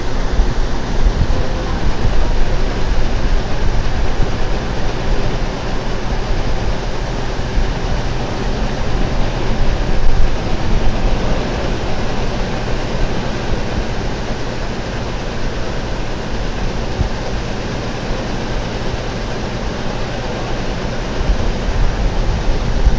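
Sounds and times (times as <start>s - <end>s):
conveyor machinery rumble and hiss: 0.0s - 22.9s.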